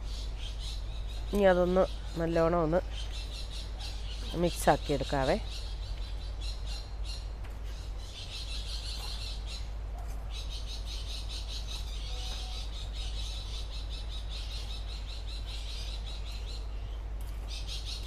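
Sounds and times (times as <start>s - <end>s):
birds chirping rapidly: 0.0s - 18.0s.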